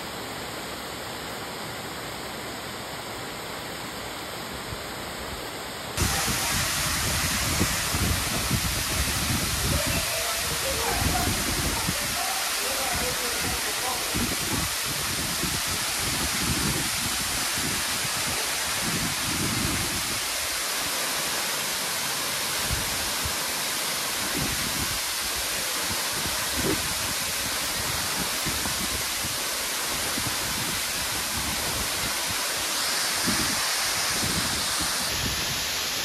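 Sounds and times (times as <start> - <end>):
waterfall rushing into pool: 0.0 - 36.0.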